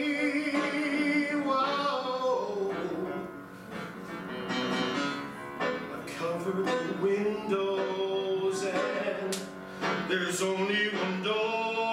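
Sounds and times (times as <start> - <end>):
electric piano: 0.0 - 11.9.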